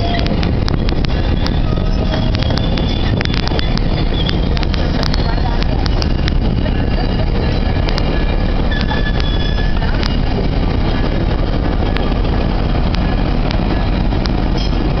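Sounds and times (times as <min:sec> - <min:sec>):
sharp rail clicks: 0:00.0 - 0:15.0
train wheels rumbling on rail: 0:00.0 - 0:15.0.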